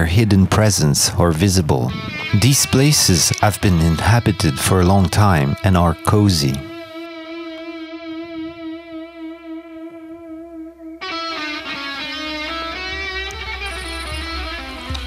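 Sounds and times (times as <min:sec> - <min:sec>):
guitar music: 0:00.1 - 0:15.0.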